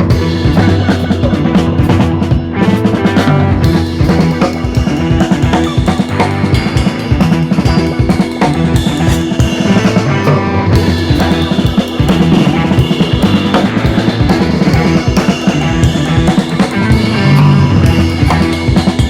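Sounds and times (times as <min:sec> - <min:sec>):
background music with drum beat: 0:00.0 - 0:19.0.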